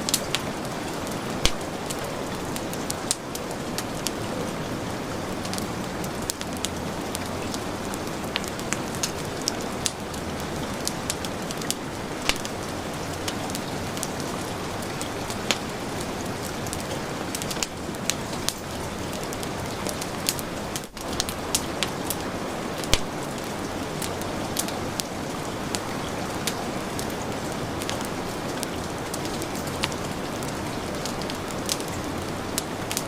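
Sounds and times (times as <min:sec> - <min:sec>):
heavy rain falling: 0:00.0 - 0:33.0
wood fire crackling: 0:00.0 - 0:33.0.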